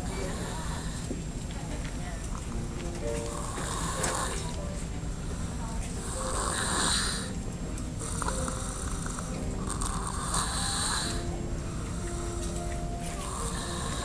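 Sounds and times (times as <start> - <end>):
snoring: 0.0 - 1.3, 3.0 - 7.4, 8.0 - 14.0.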